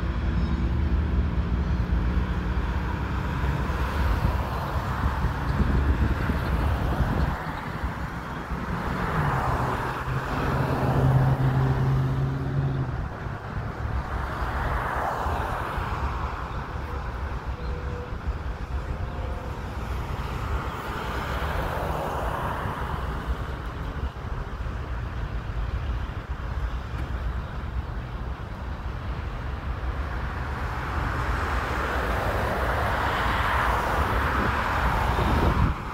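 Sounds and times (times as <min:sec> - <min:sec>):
cars driving past: 0:00.0 - 0:35.9.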